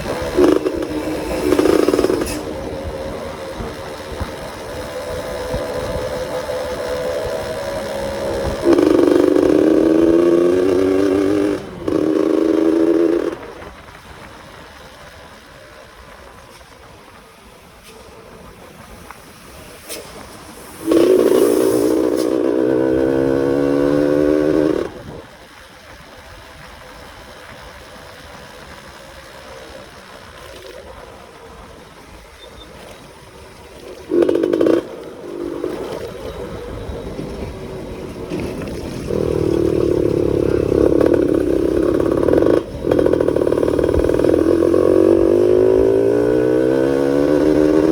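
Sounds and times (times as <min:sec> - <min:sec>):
two-stroke motorcycle engine revving: 0:00.0 - 0:16.4, 0:20.5 - 0:47.9.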